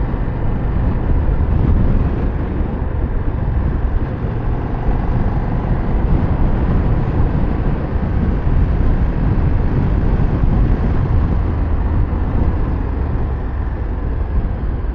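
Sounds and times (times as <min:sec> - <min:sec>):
motorcycle engine running: 0:00.0 - 0:14.9
road and wind noise: 0:00.0 - 0:14.9.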